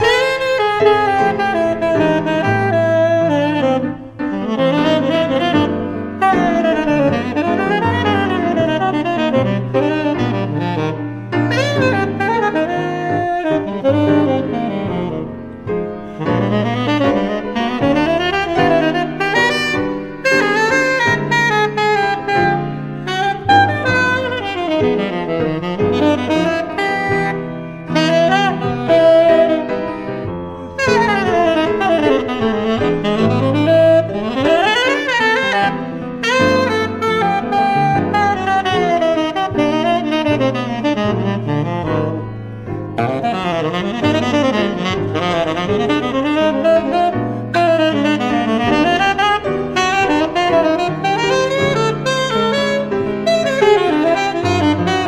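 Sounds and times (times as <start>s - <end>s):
piano accompaniment: 0.0s - 55.0s
tenor saxophone fast runs: 0.0s - 55.0s.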